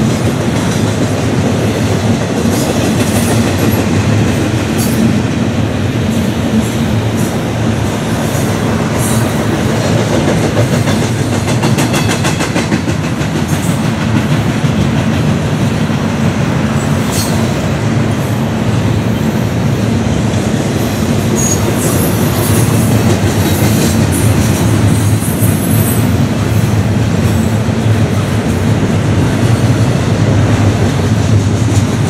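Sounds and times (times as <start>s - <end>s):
clickety-clack over rail joints: 0.0s - 32.0s
train wheels rumbling on rails: 0.0s - 32.0s.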